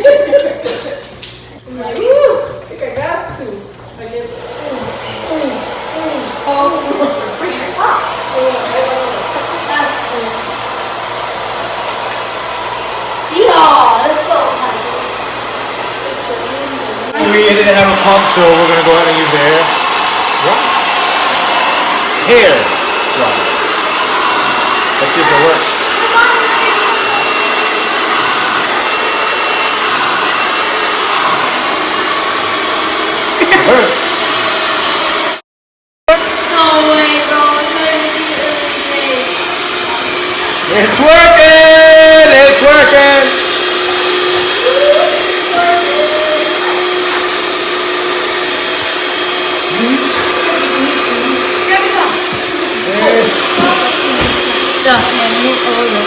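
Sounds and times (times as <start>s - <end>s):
hair dryer blowing air: 0.0s - 35.4s, 36.1s - 56.0s.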